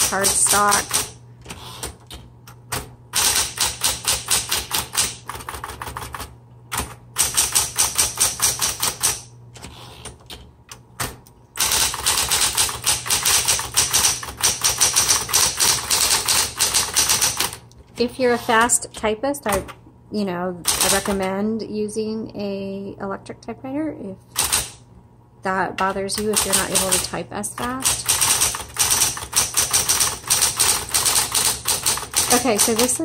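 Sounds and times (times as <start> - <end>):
typewriter motor hum: 0.0 - 19.7, 20.6 - 21.3, 24.3 - 24.8, 25.9 - 33.0
electric typewriter typing: 0.0 - 19.8, 20.6 - 21.4, 24.3 - 24.8, 25.8 - 33.0.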